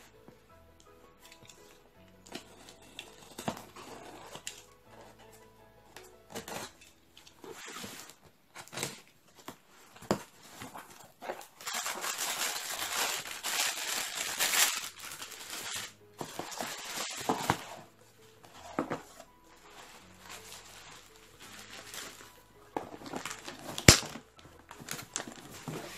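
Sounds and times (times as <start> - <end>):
plastic packaging crinkling: 1.2 - 25.9.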